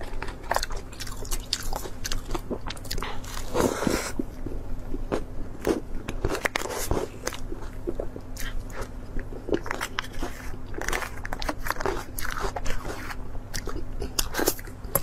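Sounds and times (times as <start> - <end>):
chewing dessert: 0.0 - 15.0.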